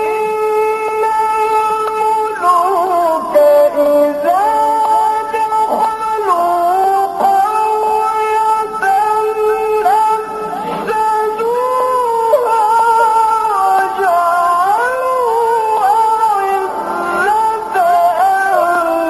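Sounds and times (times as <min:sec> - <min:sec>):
person reciting melodically: 0:00.0 - 0:19.0.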